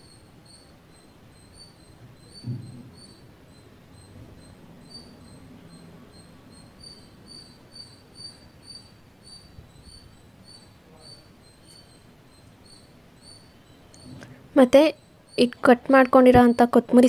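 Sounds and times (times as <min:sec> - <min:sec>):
high insect-like chirps: 0:00.0 - 0:17.0.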